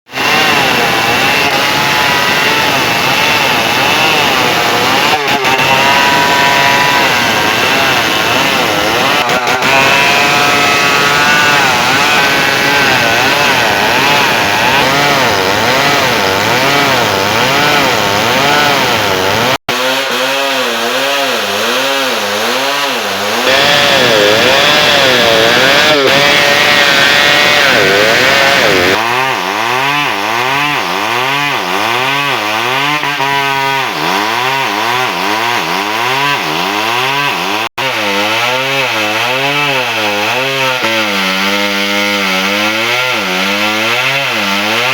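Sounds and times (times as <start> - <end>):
chainsaw running at high revs: 0.1 - 44.9.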